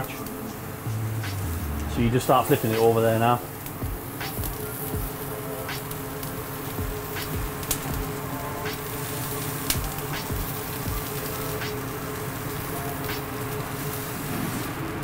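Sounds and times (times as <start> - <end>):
sharp crackling pops: 0.0 - 15.0
steady hum: 0.0 - 15.0
steak sizzling on a grill: 0.0 - 15.0.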